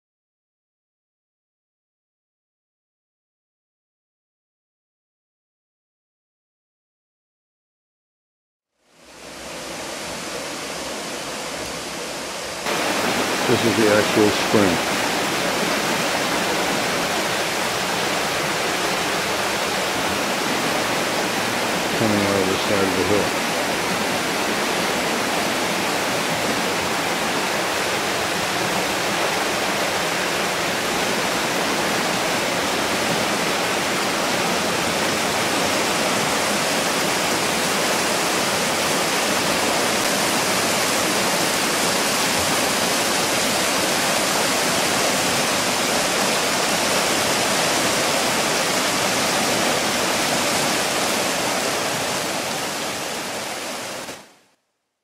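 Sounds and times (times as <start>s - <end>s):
water rushing over rocks: 9.0s - 54.4s.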